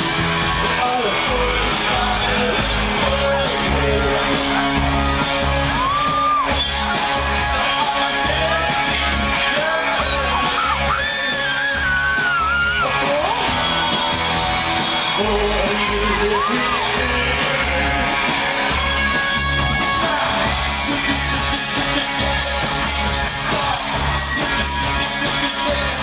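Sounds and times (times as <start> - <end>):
crowd shouting along: 0.0 - 26.0
electronic rock song: 0.0 - 26.0
man singing: 0.0 - 26.0.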